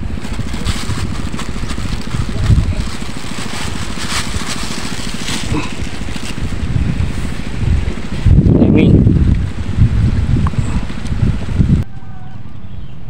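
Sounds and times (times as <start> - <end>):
small engine running: 0.0 - 11.9.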